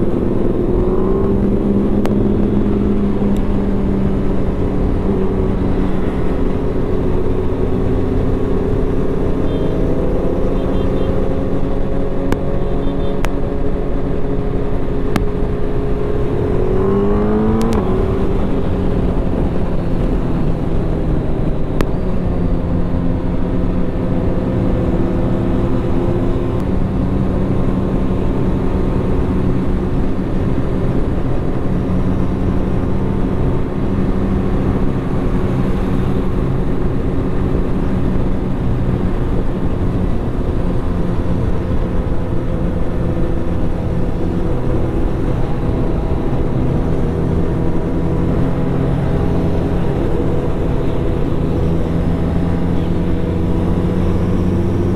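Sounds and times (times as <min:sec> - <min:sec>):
motorcycle engine cruising: 0:00.0 - 0:54.9.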